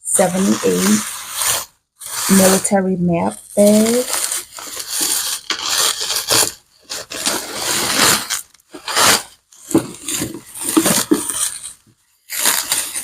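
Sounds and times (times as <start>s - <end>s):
scrapes: 0.1s - 2.8s, 3.6s - 13.0s
packaging rustling and crinkling: 0.2s - 2.6s, 3.5s - 13.0s.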